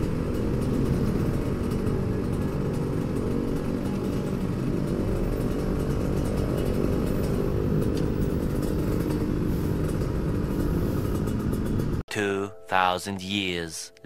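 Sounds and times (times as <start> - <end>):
traffic noise: 0.0 - 12.0
two-stroke motorbike engine running: 0.0 - 12.0.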